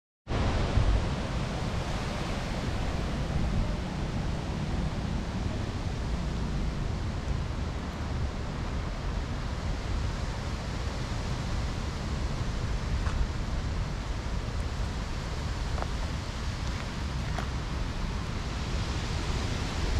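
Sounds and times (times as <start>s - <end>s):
rushing outdoor noise: 0.3s - 19.9s.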